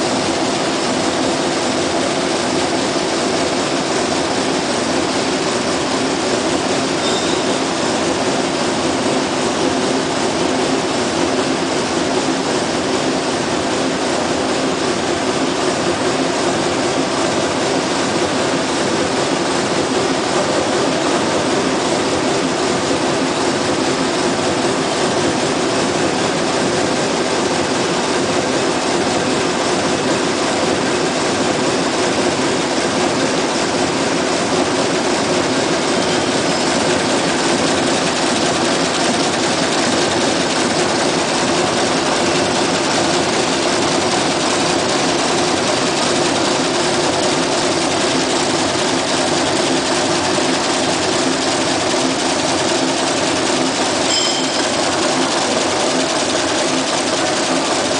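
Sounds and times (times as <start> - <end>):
loom mechanical clatter: 0.0 - 57.9.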